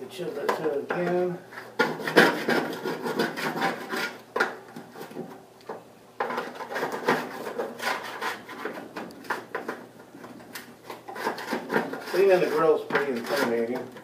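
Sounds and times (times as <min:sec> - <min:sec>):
hand scraper scraping grill: 0:00.4 - 0:05.3, 0:06.2 - 0:14.0.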